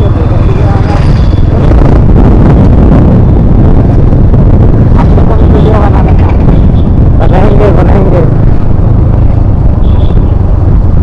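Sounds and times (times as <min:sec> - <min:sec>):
motorcycle engine and exhaust: 0:00.0 - 0:11.0
wind buffeting on microphone: 0:00.0 - 0:11.0.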